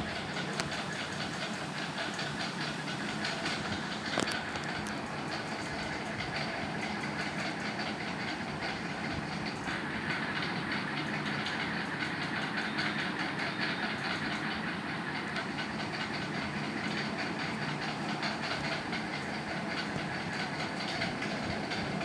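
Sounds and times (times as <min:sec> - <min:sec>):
fast fine clatter: 0:00.0 - 0:22.0
rumble and hiss: 0:00.0 - 0:22.0.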